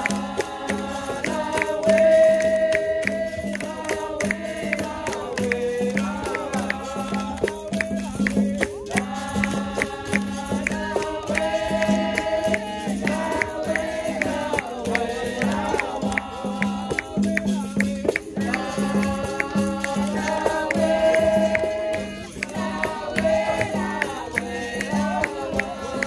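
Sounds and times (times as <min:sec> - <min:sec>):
berimbau: 0:00.0 - 0:26.0
group singing: 0:00.0 - 0:26.0
rattling percussion strikes: 0:00.0 - 0:26.0.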